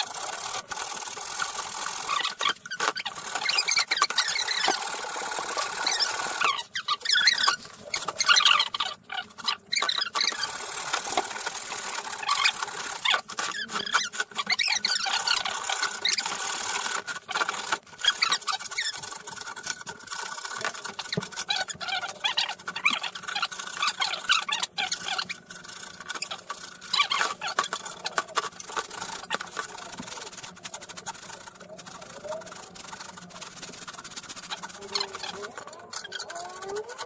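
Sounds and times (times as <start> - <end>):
rubbing and scraping on wood: 0.0 - 37.0
short squeaks and clicks: 1.4 - 32.4, 33.0 - 37.0.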